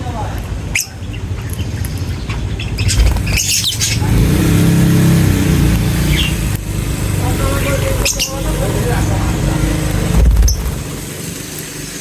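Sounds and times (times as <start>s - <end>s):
lovebirds chirping and squawking: 0.4s - 9.7s, 10.3s - 11.1s.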